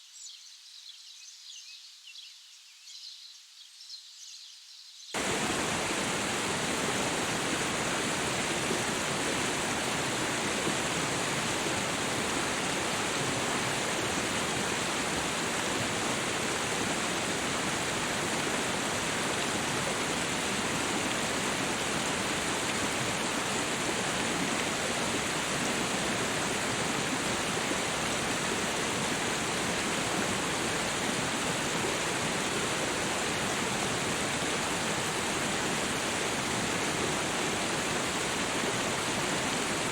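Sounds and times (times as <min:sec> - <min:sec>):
water rushing: 0:05.2 - 0:39.9.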